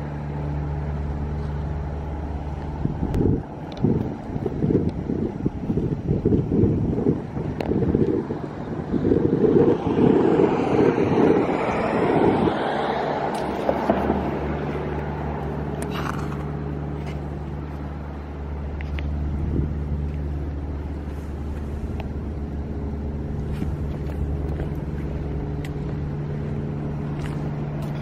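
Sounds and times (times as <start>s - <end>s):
petrol engine idling: 0.0s - 9.6s, 13.3s - 28.0s.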